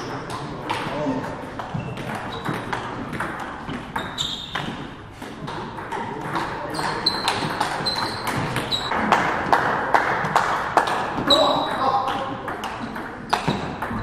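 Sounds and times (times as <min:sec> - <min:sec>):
table tennis ball bouncing: 0:00.0 - 0:14.0.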